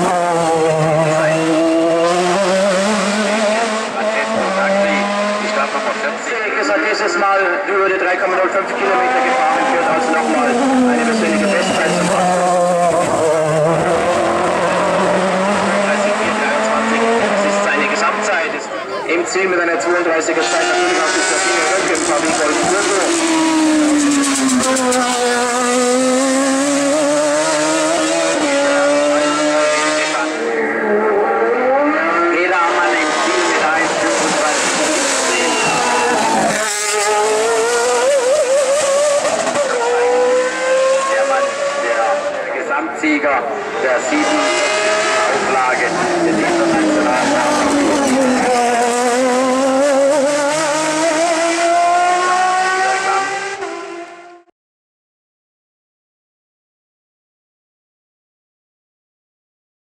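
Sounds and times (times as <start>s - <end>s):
race car engine at high revs: 0.0s - 54.5s.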